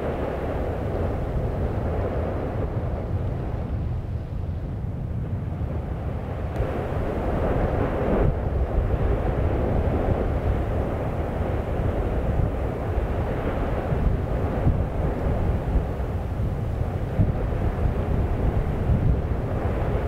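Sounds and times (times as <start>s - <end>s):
volcano roaring: 0.0s - 20.0s.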